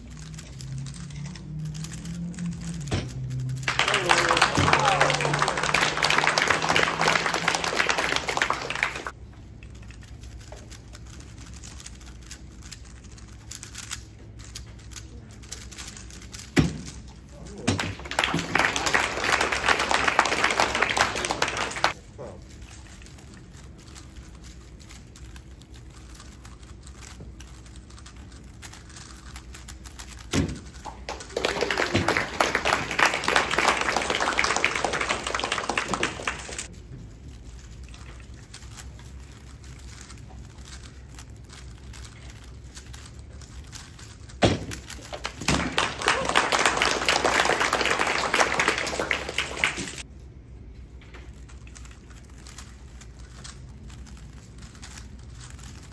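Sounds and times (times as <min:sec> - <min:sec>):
puzzle cubes clacking: 0:00.0 - 0:36.7, 0:37.4 - 0:50.0.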